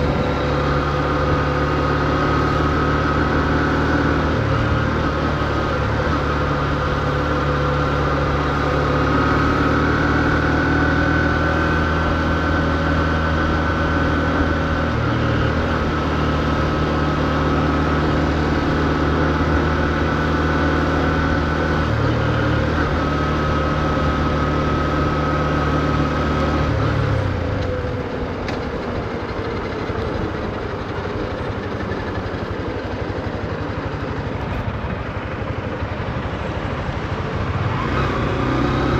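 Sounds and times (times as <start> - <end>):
motorcycle engine running: 0.0 - 38.9
street noise: 0.0 - 38.9.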